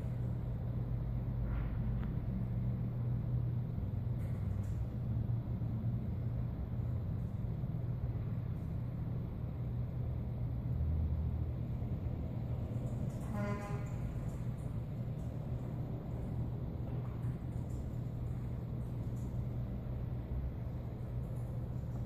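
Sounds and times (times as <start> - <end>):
faint hum: 0.0 - 22.0
steady low rumble: 0.0 - 22.0.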